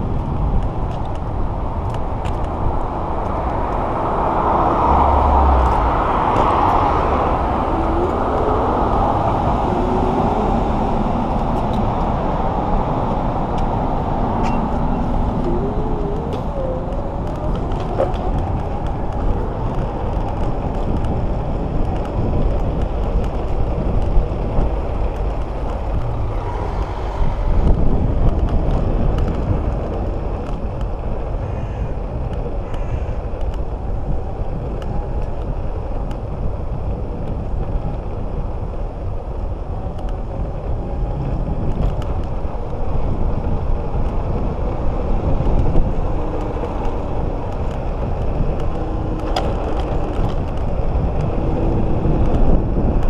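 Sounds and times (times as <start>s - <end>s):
tyres rolling on asphalt: 0.0s - 53.0s
wind buffeting microphone: 0.0s - 53.0s
scooter rattles over bumps: 6.6s - 53.0s.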